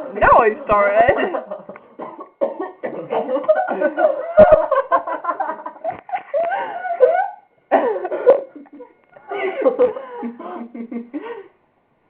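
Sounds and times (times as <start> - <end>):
people laughing and talking: 0.0 - 2.4, 3.0 - 7.5, 8.4 - 11.2.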